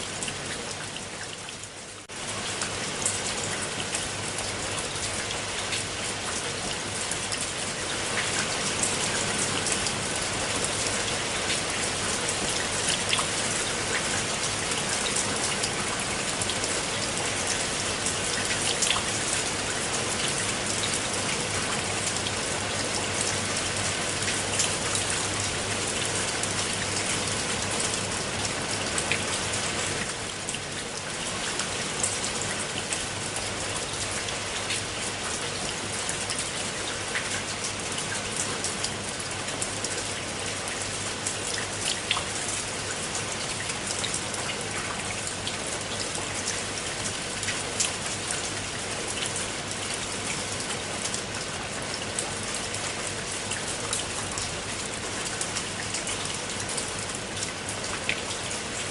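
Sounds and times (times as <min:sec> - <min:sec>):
rain falling into water: 0:00.0 - 0:58.9.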